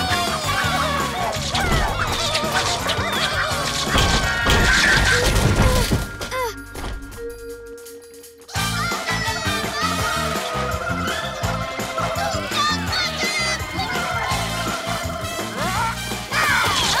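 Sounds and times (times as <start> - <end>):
cartoon action music: 0.0 - 17.0.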